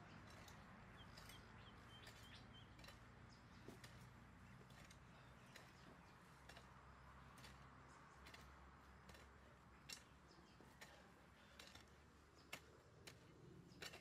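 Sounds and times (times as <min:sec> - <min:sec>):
hoe chopping and scraping soil: 0:00.0 - 0:14.0.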